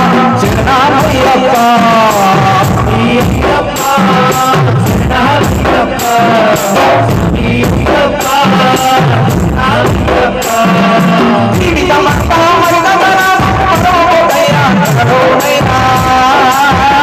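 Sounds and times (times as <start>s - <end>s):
drums and percussion: 0.0s - 17.0s
man singing into a microphone: 0.0s - 17.0s.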